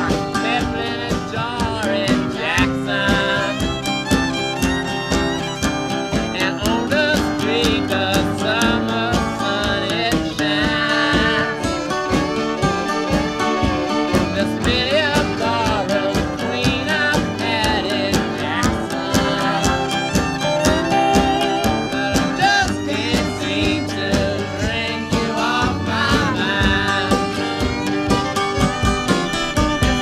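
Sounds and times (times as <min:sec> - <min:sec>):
country song: 0:00.0 - 0:30.0
fiddle: 0:00.0 - 0:30.0
guitar: 0:00.0 - 0:30.0
person singing: 0:00.0 - 0:30.0.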